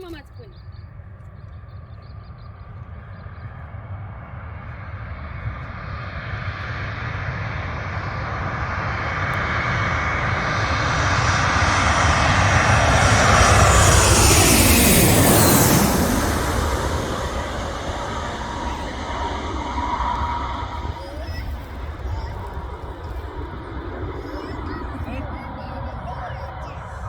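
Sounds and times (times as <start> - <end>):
jet airliner engine noise: 0.0 - 27.0.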